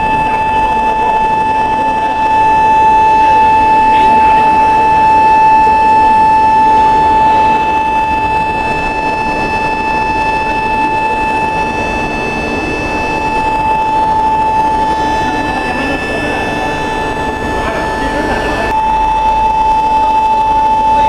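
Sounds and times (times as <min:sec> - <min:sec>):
factory noise: 0:00.0 - 0:21.0
furnace high-pitched whine: 0:00.0 - 0:21.0.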